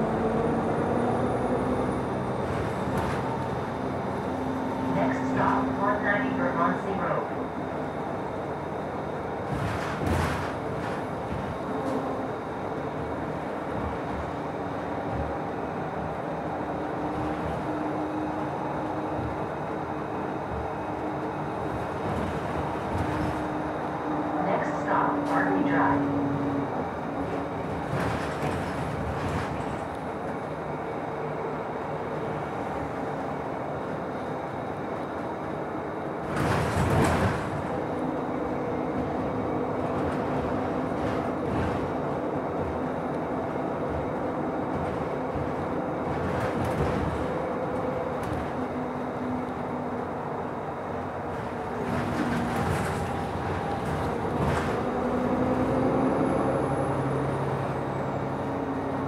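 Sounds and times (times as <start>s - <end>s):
bus engine hum: 0.0s - 59.0s
road noise: 0.0s - 59.0s.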